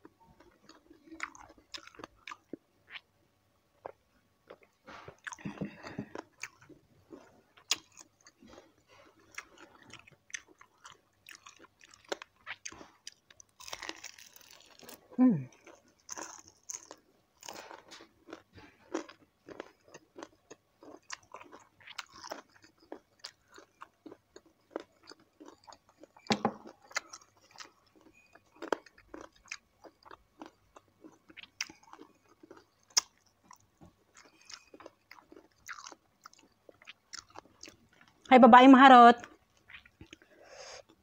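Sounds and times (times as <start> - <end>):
crunchy chewing: 0.4 - 3.1, 3.8 - 38.3, 39.2 - 41.0.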